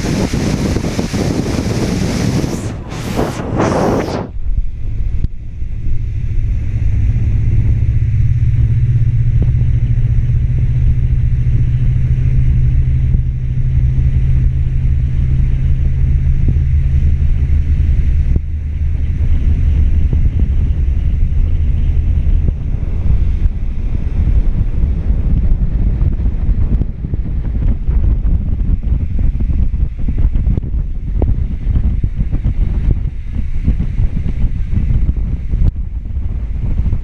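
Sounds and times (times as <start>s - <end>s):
engine droning: 0.0s - 37.0s
wind rumbling on microphone: 0.0s - 37.0s.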